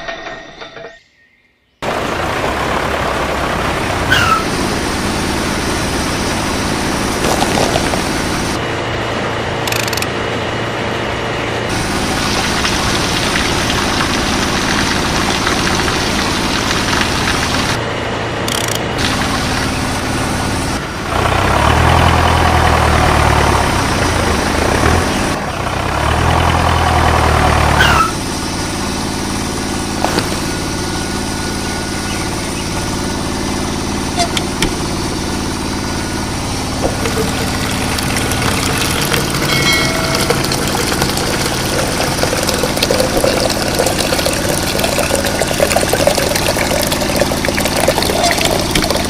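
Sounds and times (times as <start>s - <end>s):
small machinery humming: 1.8s - 25.8s, 27.2s - 49.0s.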